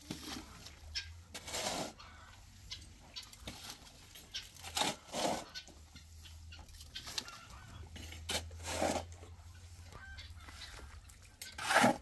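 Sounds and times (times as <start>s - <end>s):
chickens clucking: 0.2s - 8.2s, 9.1s - 11.8s.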